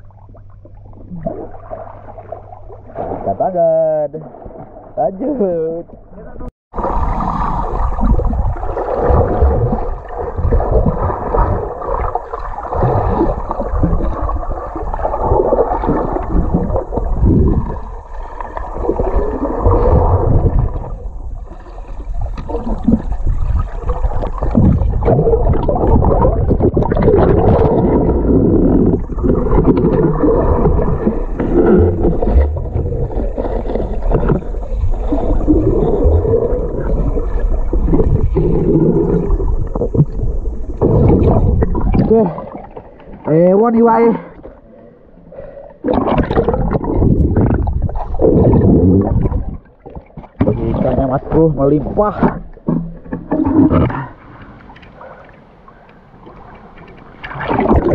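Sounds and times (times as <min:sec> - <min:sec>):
muffled underwater rumbling and gurgling: 0:00.0 - 0:57.9.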